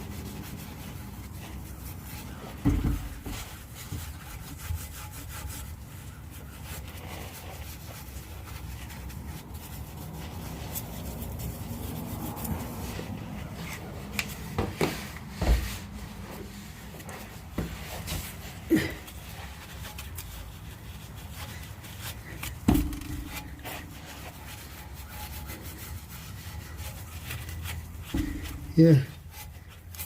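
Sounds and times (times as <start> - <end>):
abrasive rubbing on metal pipe: 0.0 - 14.0, 15.6 - 30.0.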